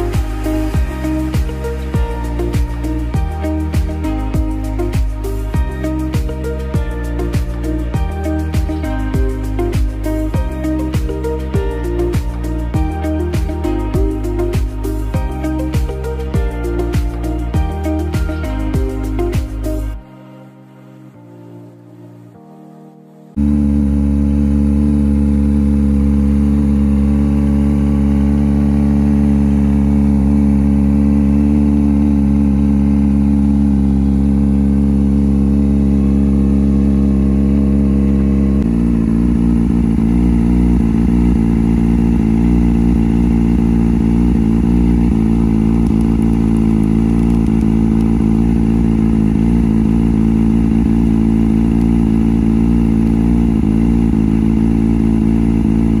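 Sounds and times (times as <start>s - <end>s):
motorcycle engine idling: 0.0s - 20.0s, 23.4s - 56.0s.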